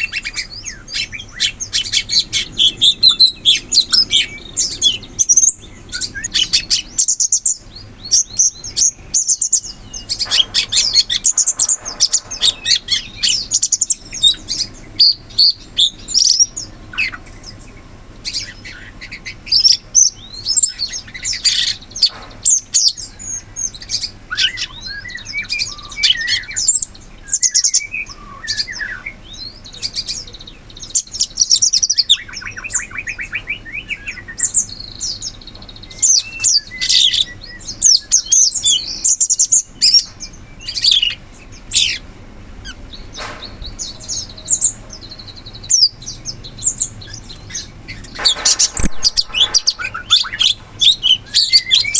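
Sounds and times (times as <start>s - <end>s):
songbird chirping and whistling: 0.0s - 42.0s, 42.6s - 51.9s.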